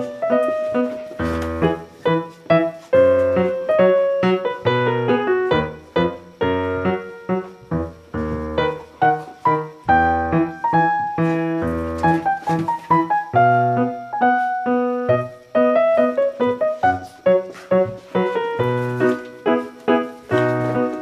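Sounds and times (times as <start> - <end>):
lively piano music: 0.0 - 21.0.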